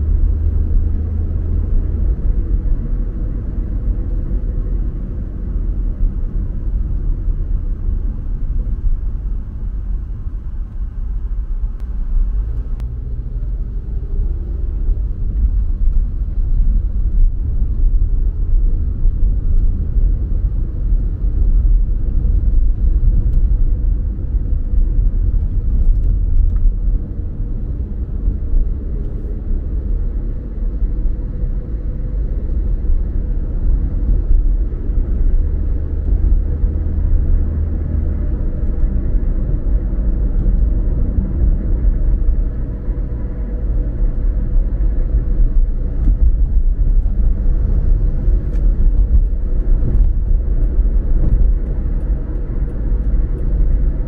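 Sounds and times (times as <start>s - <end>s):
car driving on road: 0.0s - 54.0s.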